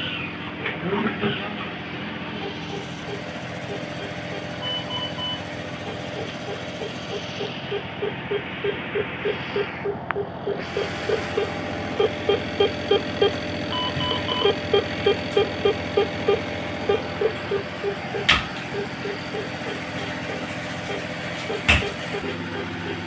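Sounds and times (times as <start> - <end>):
hum of hospital equipment: 0.0 - 23.0
monitor beeping: 2.4 - 23.0.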